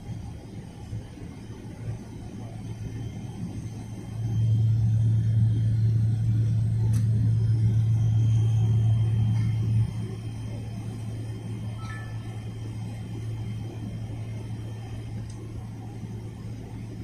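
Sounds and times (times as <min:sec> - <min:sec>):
airliner engine rumble in cabin: 0:00.0 - 0:17.0.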